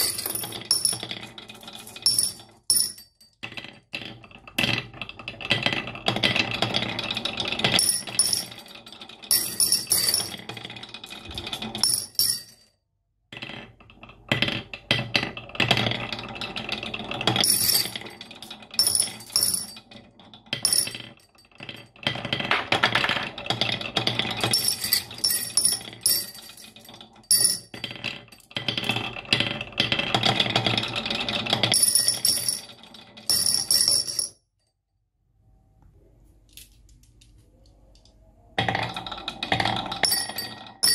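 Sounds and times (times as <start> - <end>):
marbles rattling down wooden run: 0.0 - 12.4, 13.4 - 34.3, 38.6 - 40.9.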